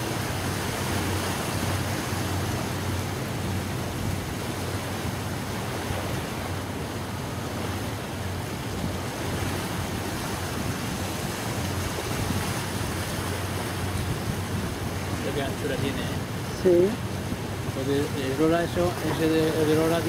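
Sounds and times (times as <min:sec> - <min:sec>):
sea: 0:00.0 - 0:20.0.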